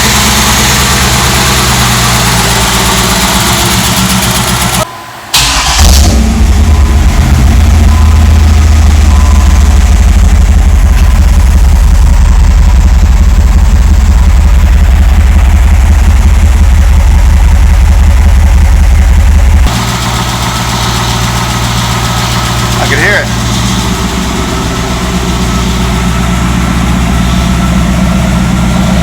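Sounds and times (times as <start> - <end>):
car engine idling loudly: 0.0 - 29.0.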